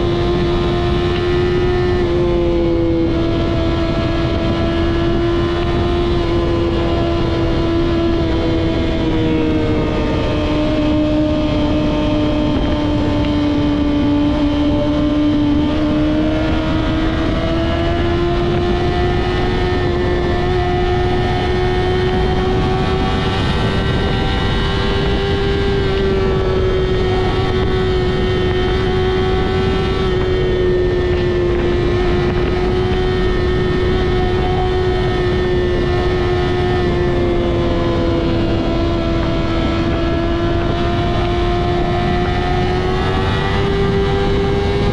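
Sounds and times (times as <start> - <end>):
motorcycle engine at high revs: 0.0 - 44.9
wind noise: 0.0 - 44.9.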